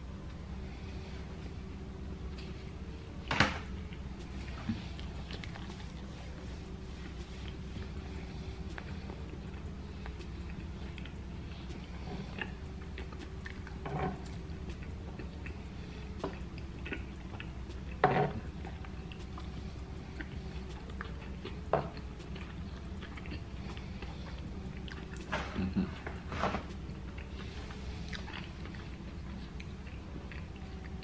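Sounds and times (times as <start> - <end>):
steady low hum: 0.0 - 31.0
person chewing: 3.8 - 31.0.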